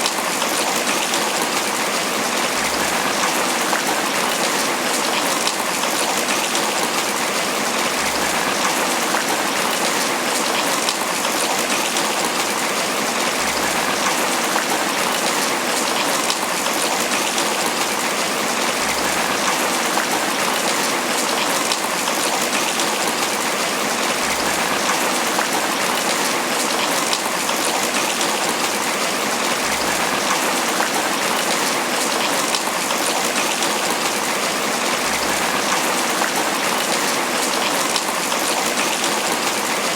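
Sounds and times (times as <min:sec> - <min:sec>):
heavy rain on banana leaves: 0:00.0 - 0:39.9.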